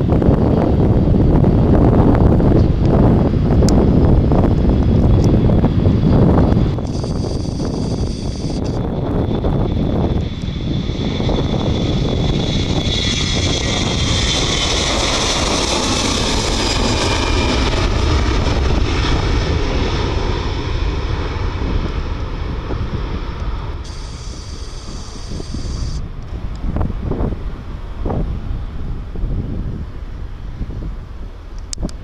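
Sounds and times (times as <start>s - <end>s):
airliner engines whining: 0.0s - 32.0s
wind buffeting microphone: 0.0s - 32.0s.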